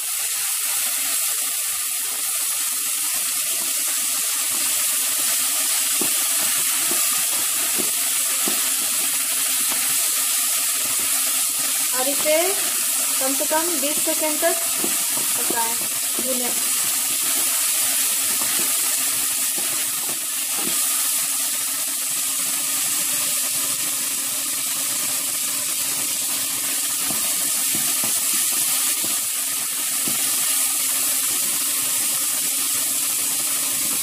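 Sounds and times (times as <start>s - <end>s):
paste sizzling in oil: 0.0s - 34.0s.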